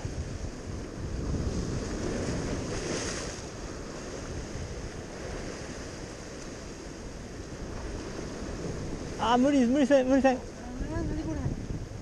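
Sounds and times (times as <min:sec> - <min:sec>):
waves breaking on rocky shore: 0:00.0 - 0:12.0
wind rumble on microphone: 0:00.0 - 0:12.0.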